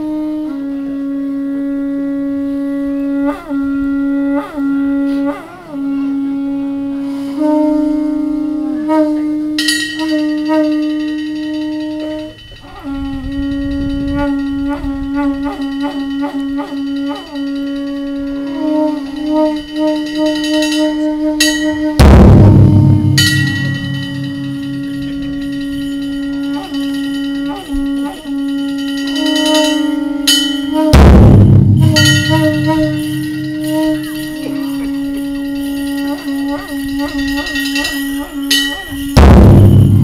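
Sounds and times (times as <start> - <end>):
conch-shell trumpets blowing: 0.0 - 40.0.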